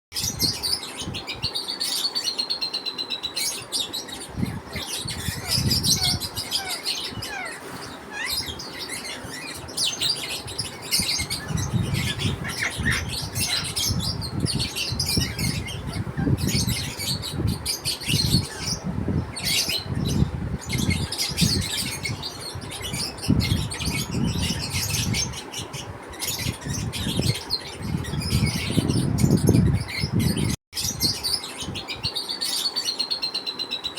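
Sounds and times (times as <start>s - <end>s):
lovebirds chirping: 0.2s - 33.9s.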